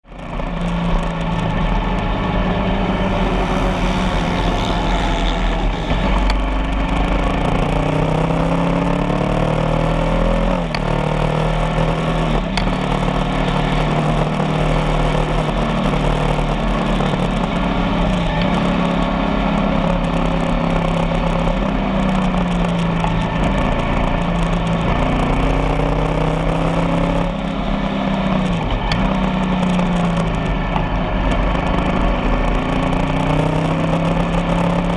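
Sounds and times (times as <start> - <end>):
motorcycle engine shifting gear: 0.2 - 34.9.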